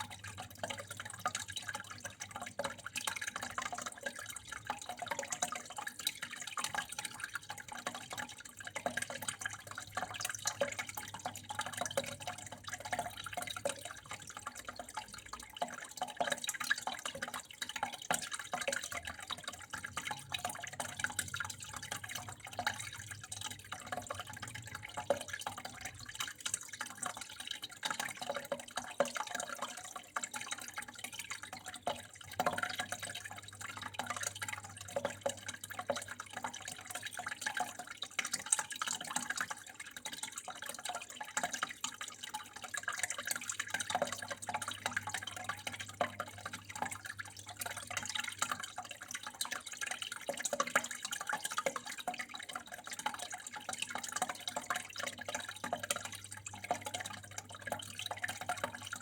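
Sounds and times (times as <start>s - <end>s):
water dripping and splashing: 0.0s - 59.0s
water trickling: 0.0s - 59.0s.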